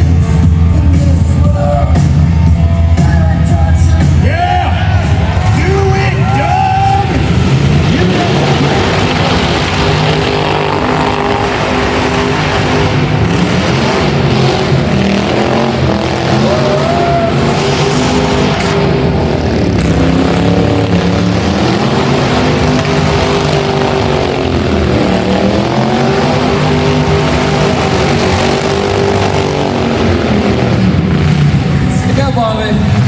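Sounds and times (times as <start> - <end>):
car engines revving hard: 0.0 - 33.0.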